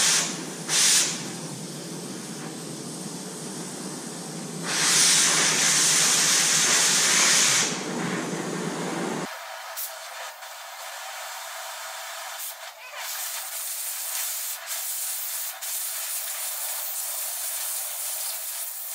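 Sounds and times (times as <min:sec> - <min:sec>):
cutting torch hissing: 0:00.0 - 0:18.9.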